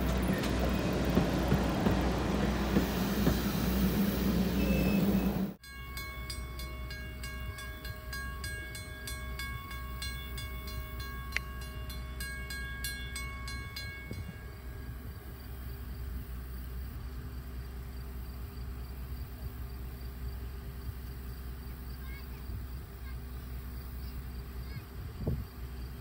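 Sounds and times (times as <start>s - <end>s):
faint steady tones: 0.0s - 24.9s
train wheels rumbling on rails: 0.0s - 26.0s
insects chirping: 0.1s - 26.0s.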